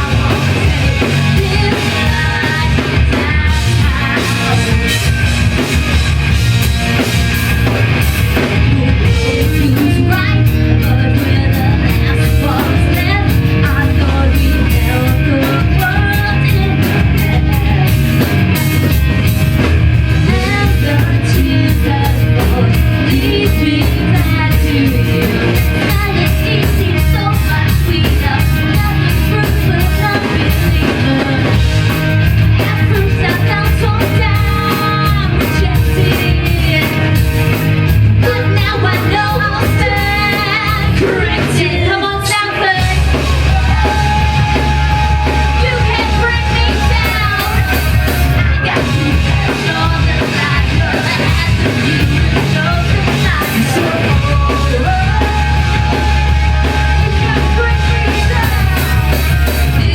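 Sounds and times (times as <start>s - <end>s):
drum kit beating fast rhythm: 0.0s - 59.9s
rock band playing live: 0.0s - 59.9s.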